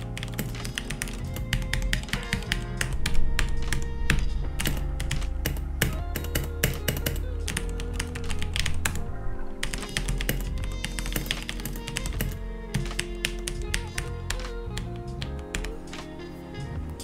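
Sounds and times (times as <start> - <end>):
mechanical keyboard typing: 0.0 - 9.0, 9.6 - 16.1
background music: 0.0 - 17.0.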